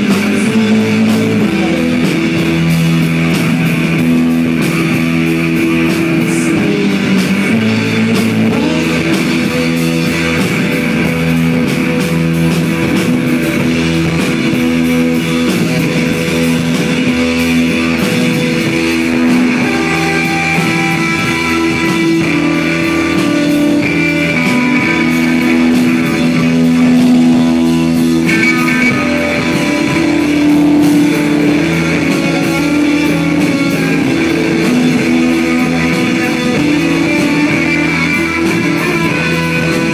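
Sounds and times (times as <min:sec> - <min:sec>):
bass guitar: 0:00.0 - 0:39.9
drum beat: 0:00.0 - 0:39.9
electric guitar droning notes: 0:00.0 - 0:39.9.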